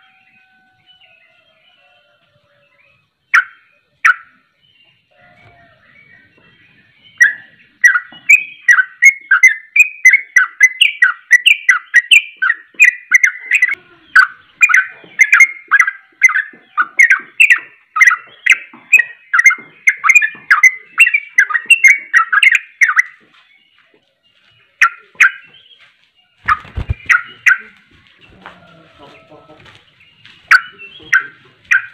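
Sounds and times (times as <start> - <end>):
bird singing rapid notes: 2.6 - 31.9.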